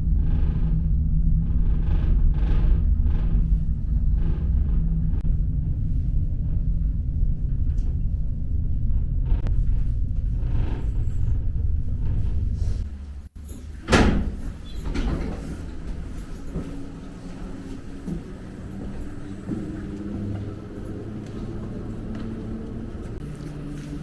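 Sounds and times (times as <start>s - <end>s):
vehicle rumbling: 0.0s - 24.0s.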